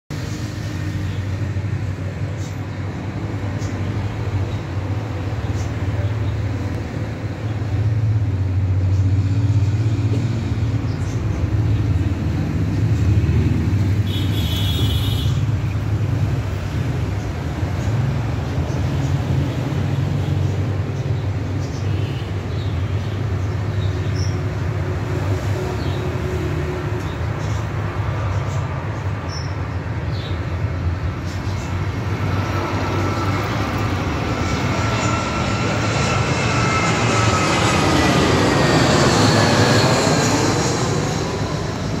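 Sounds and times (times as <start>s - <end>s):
jet airliner passing overhead: 0.1s - 42.0s.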